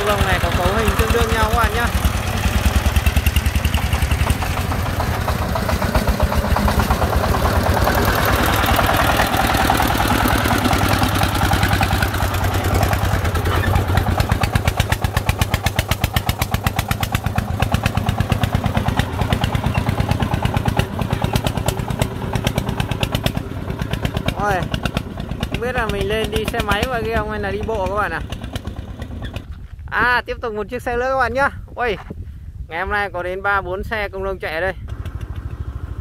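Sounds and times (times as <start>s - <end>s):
diesel truck engine chugging: 0.0s - 29.5s.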